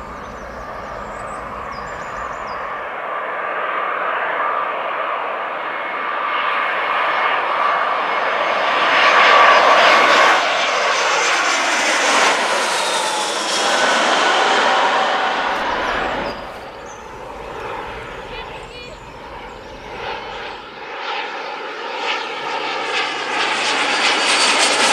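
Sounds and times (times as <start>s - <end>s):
jet airliner engines whining: 0.0s - 24.9s.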